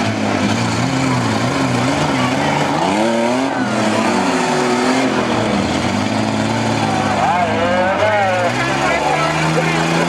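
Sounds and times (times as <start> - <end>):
truck engines revving: 0.0 - 10.0.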